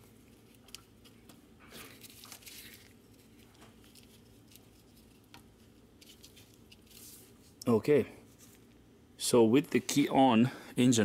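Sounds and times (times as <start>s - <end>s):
gloved hands rustling: 0.0s - 8.8s.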